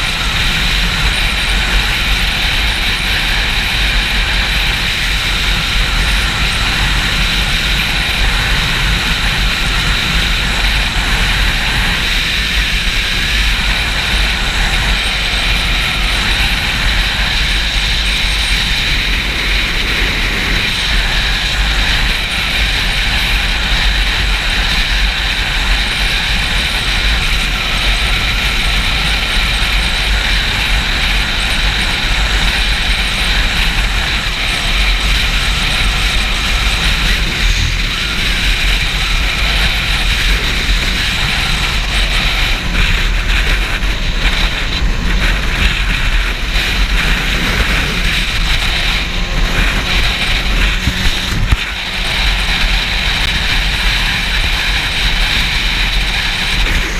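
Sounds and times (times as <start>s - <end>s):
motorcycle engine running: 0.0s - 56.9s
wind buffeting microphone: 0.0s - 56.9s.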